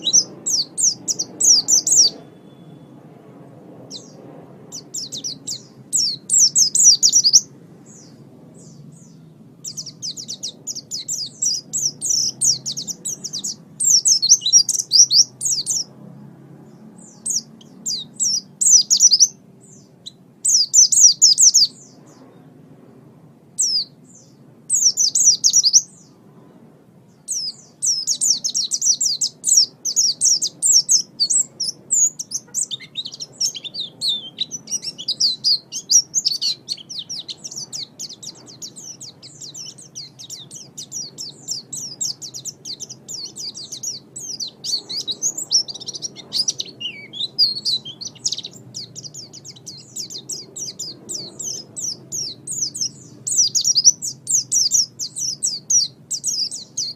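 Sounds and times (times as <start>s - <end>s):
small songbird chirping: 0.0s - 56.9s.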